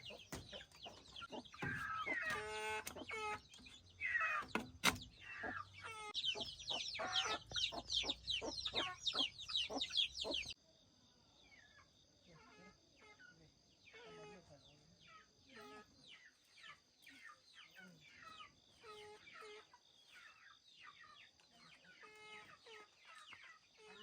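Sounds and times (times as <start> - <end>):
chickens clucking and squawking: 0.0 - 10.6, 11.8 - 24.0.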